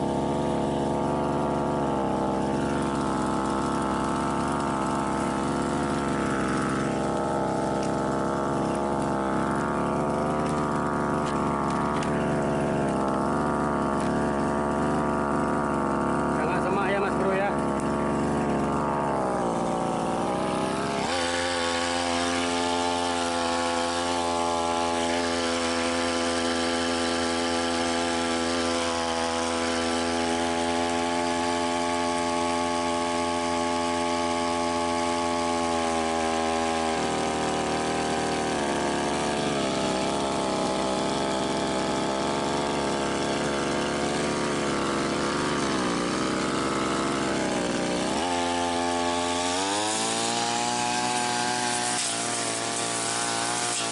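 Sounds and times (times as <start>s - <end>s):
brush cutter engine running: 0.0s - 53.9s.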